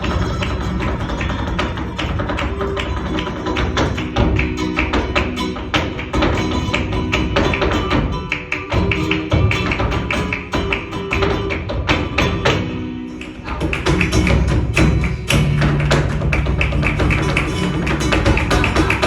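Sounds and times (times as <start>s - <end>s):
dancer's footwork taps: 0.0s - 19.0s
flamenco music: 0.0s - 19.0s.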